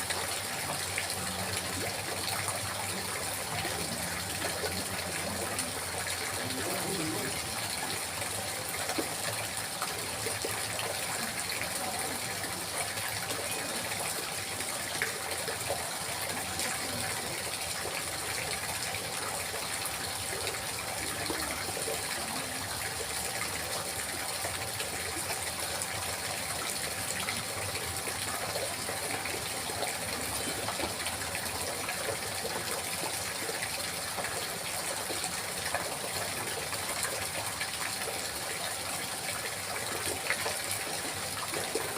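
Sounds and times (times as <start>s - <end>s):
babbling flowing water: 0.0s - 41.9s.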